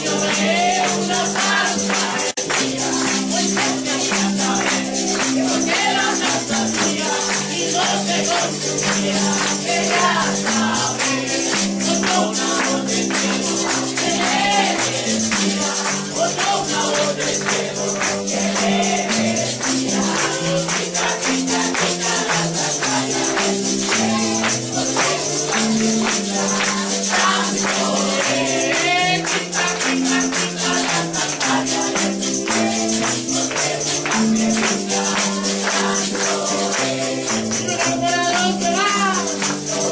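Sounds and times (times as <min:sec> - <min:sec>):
congregation singing: 0:00.0 - 0:39.9
tambourine beat: 0:00.0 - 0:39.9.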